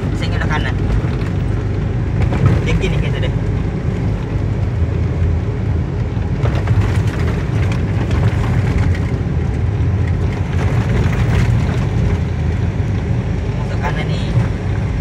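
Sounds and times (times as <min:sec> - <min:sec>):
vehicle engine and tyres rumbling: 0:00.0 - 0:15.0.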